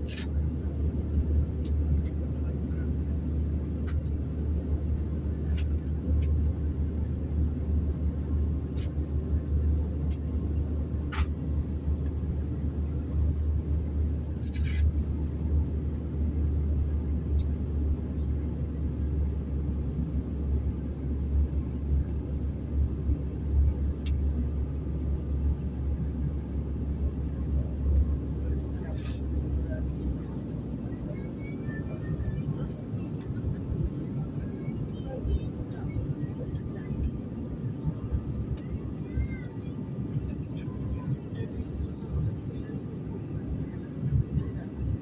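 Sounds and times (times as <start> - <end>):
airliner cabin rumble: 0.0 - 45.0.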